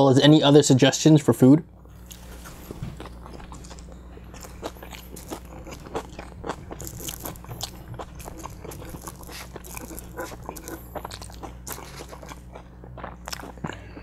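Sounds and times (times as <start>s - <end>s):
man chewing with mouth clicks: 1.7s - 14.0s.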